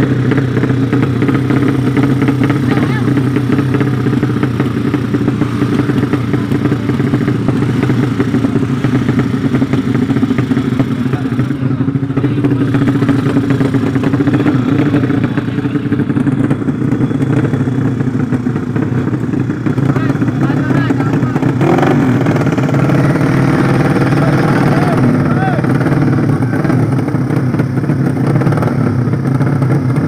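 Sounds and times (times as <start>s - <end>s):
racing motorcycle engines: 0.0s - 30.0s.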